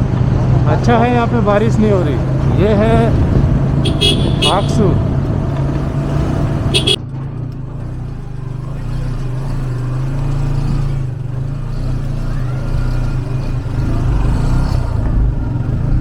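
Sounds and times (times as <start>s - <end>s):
motorcycle engine running: 1.8s - 7.2s, 7.8s - 16.0s.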